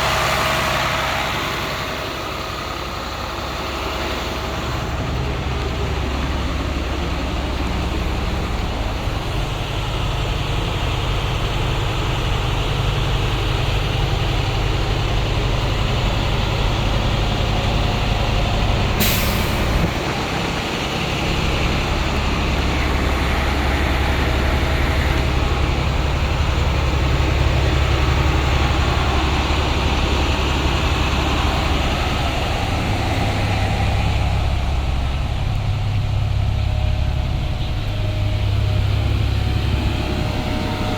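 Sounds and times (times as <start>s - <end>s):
diesel bus engine running: 0.0s - 40.9s.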